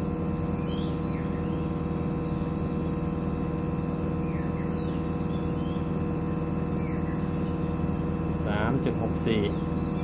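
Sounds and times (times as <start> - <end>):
air conditioner unit humming: 0.0 - 10.0.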